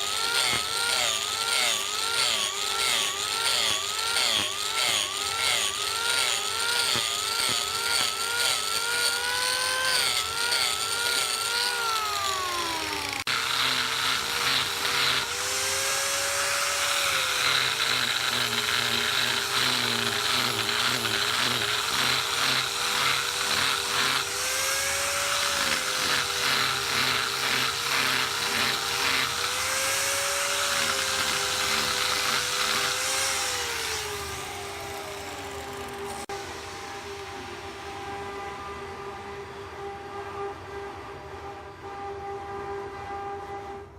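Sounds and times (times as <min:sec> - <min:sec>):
tool chatter cutting spinning wood: 0:00.0 - 0:36.3
lathe motor whine: 0:00.0 - 0:43.6.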